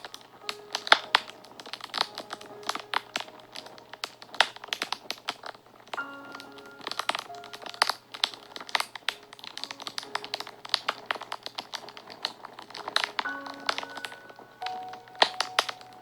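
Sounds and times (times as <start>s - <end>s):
fire crackling and popping: 0.0s - 16.0s
soft background music: 0.0s - 16.0s.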